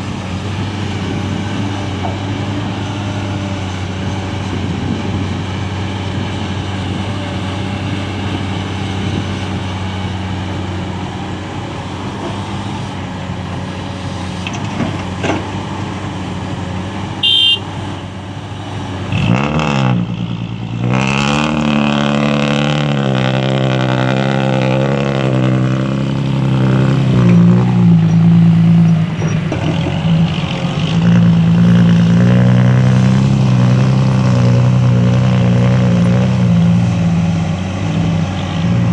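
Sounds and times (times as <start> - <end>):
heavy diesel engine revving: 0.0 - 38.9.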